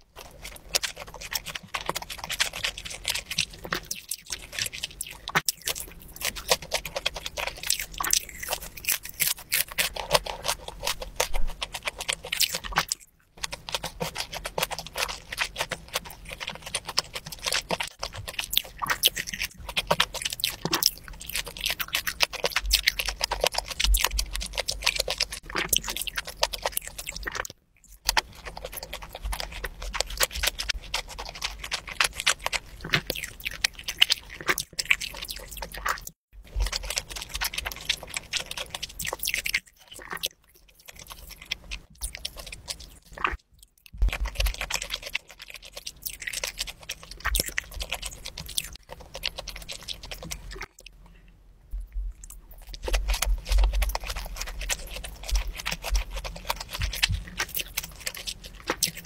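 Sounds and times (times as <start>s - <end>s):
mouth clicks and smacks: 0.0s - 59.0s
person chewing wetly: 0.0s - 59.0s.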